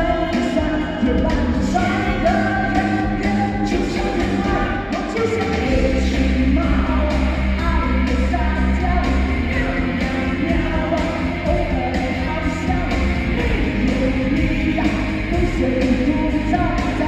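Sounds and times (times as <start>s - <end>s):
backing music with bass line: 0.0s - 17.0s
person singing: 0.0s - 17.0s.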